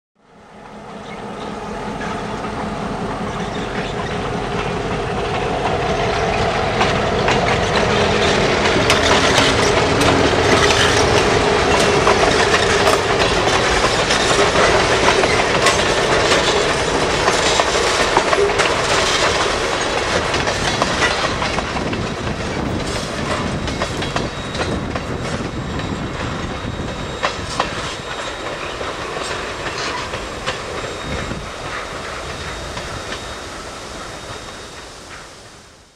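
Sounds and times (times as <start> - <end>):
diesel locomotive hum: 0.2 - 35.9
train wheels clacking over rail joints: 1.0 - 35.3.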